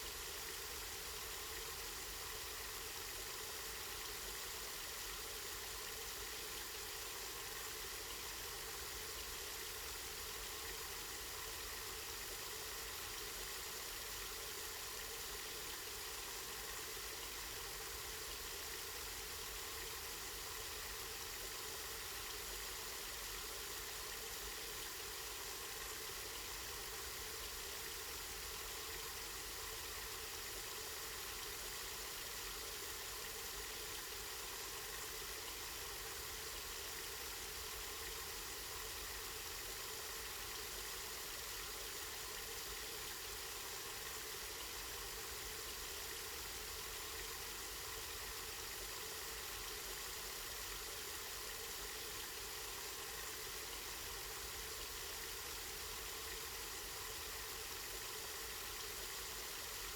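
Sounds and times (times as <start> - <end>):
spring water flowing and splashing: 0.0 - 59.9.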